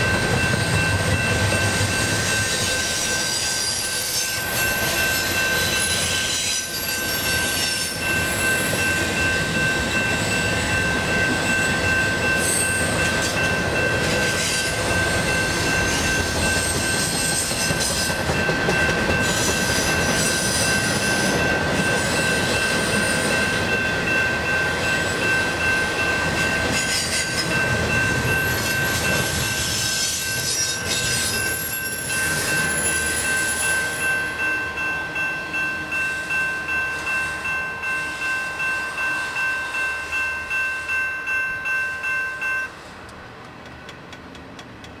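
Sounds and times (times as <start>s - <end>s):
train wheels clacking: 0.0s - 34.2s, 42.6s - 45.0s
crossing bell ringing: 0.0s - 43.1s.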